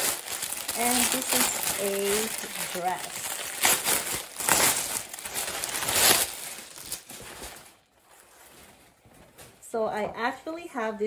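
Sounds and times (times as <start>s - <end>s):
plastic bag crinkling and rustling: 0.0s - 9.9s.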